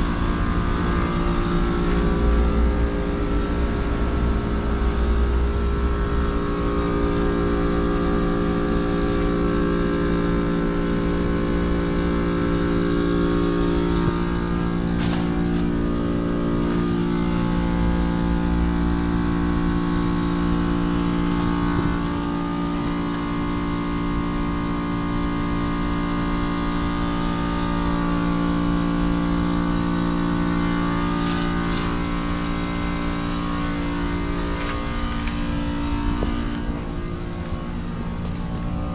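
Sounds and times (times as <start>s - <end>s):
compressor humming: 0.0s - 38.9s.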